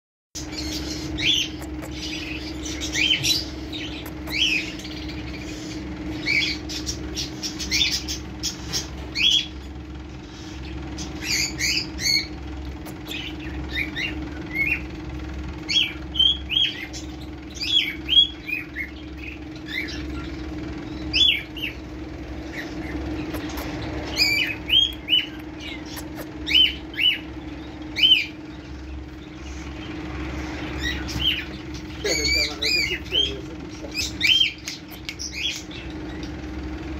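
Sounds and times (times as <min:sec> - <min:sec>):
high chirping animal calls: 0:00.4 - 0:36.8
steady low hum: 0:00.4 - 0:36.9.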